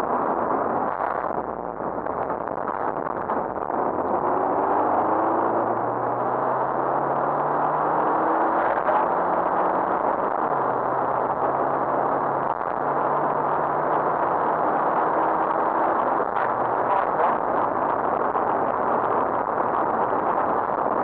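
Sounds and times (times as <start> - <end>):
rally car engine running hard: 0.0 - 21.0
wind and road noise: 0.0 - 21.0.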